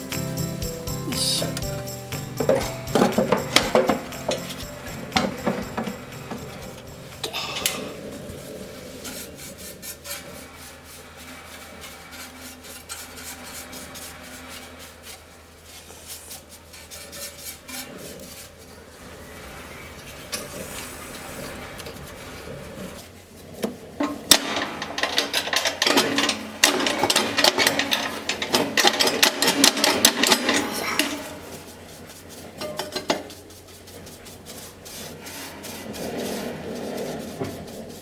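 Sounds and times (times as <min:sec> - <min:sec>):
rasping and scraping: 0:00.0 - 0:23.8, 0:24.4 - 0:38.0.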